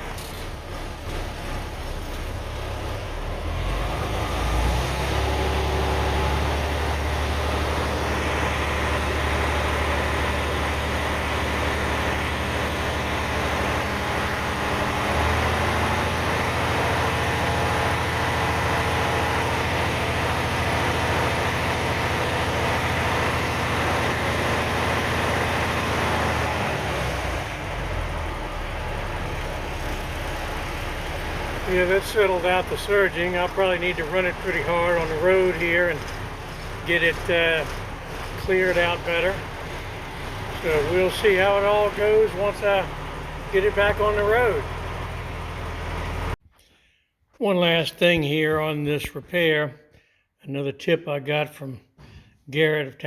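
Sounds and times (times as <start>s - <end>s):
diesel engine running: 0.0s - 46.4s.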